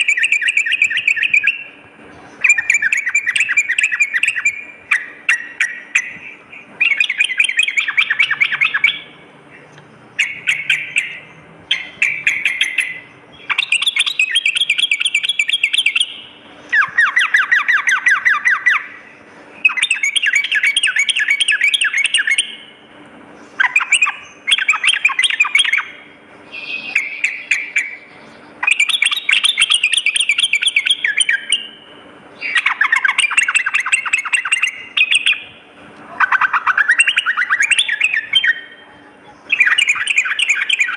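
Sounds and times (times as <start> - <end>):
bulbul singing rapid chattering phrases: 0.0 - 22.8, 23.5 - 40.9.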